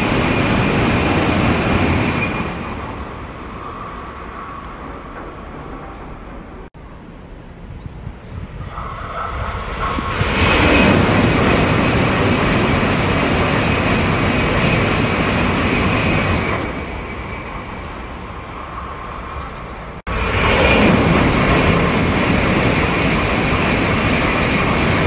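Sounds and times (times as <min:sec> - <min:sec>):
high-speed train passing: 0:00.0 - 0:25.0.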